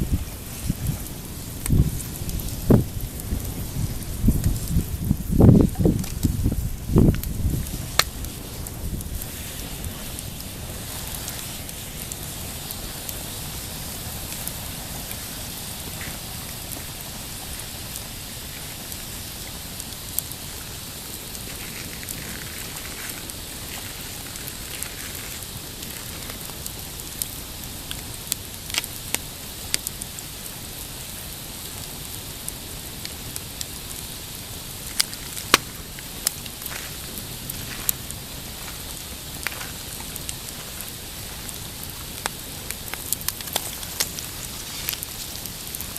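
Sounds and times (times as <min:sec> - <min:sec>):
sharp pops of fire: 0:00.0 - 0:30.5, 0:31.2 - 0:45.9
campfire crackling: 0:00.0 - 0:45.9.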